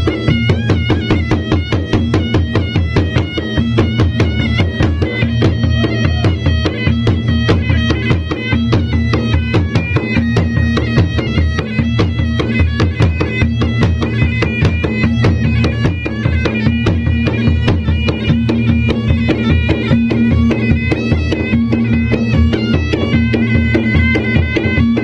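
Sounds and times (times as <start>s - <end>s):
drums beaten in fast rhythm: 0.0s - 25.0s
shrill wind instrument melody: 0.0s - 25.0s.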